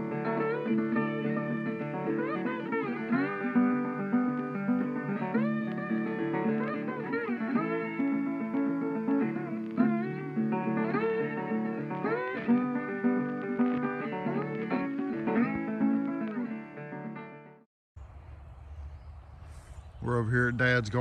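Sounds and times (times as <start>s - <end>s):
acoustic guitar plucked and strummed: 0.0s - 17.6s.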